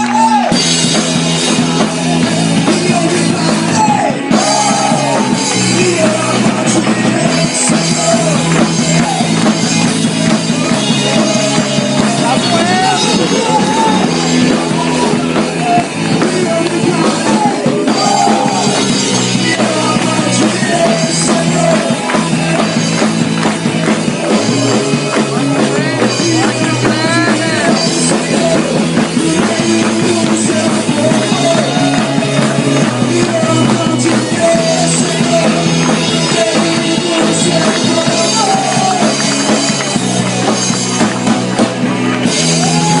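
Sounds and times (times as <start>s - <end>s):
rock music with drum kit: 0.0s - 43.0s.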